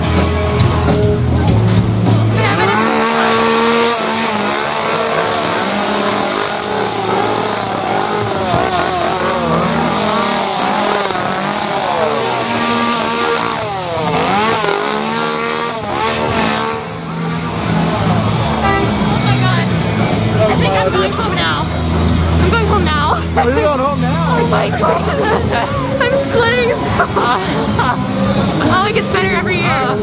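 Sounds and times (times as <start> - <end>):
small engines revving: 0.0 - 30.0.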